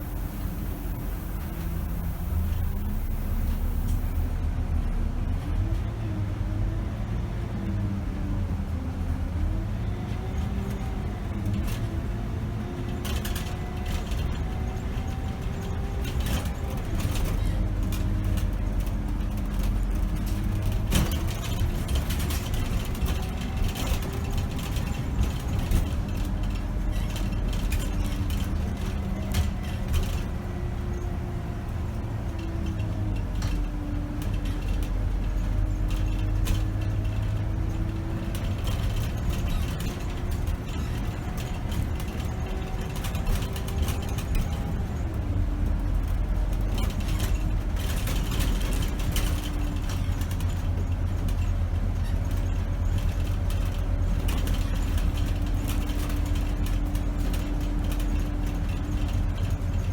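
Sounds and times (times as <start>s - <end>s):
bus diesel engine rumble: 0.0s - 59.9s
rattles and clicks of bus body: 0.0s - 59.9s.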